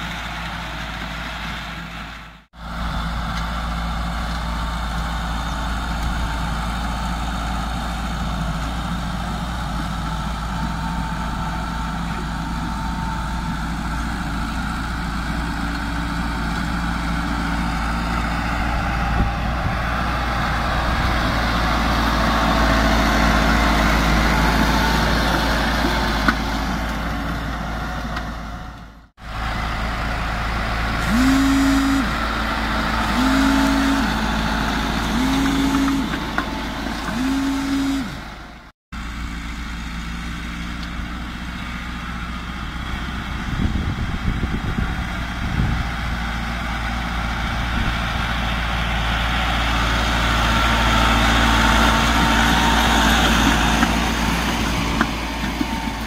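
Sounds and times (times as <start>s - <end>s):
tractor running under load: 0.0s - 56.0s.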